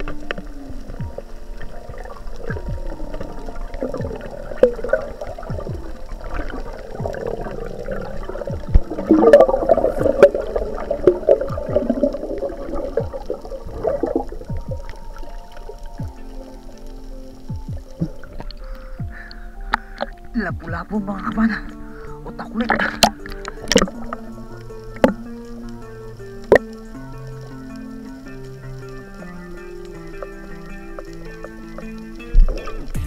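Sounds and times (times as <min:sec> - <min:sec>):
water bubbling and gurgling: 0:00.0 - 0:33.0.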